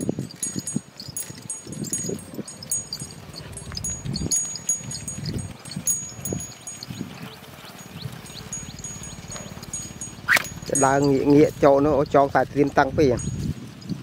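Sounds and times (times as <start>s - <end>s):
small metal bells jingling: 0.0s - 14.0s.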